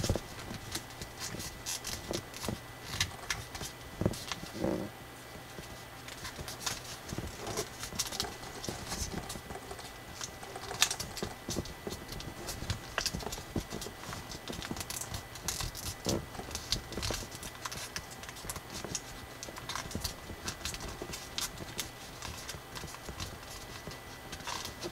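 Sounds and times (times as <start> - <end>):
paper crackling and crinkling: 0.0 - 24.9.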